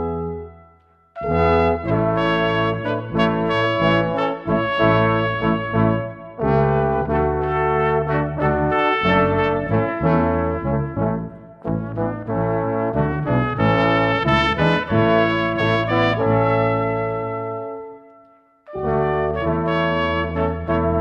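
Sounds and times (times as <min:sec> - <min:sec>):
brass ensemble playing a hymn: 0:01.2 - 0:17.8, 0:18.7 - 0:21.0.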